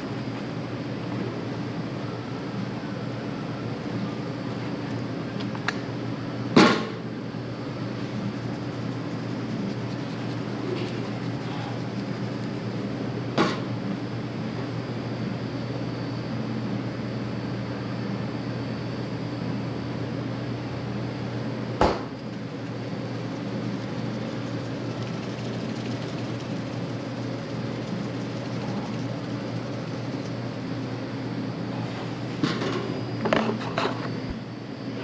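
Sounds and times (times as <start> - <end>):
ventilation fans humming: 0.0 - 35.0.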